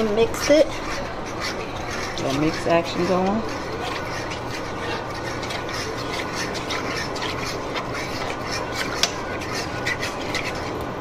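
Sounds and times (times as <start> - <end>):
fork whisking sauce in a pan: 0.0 - 11.0.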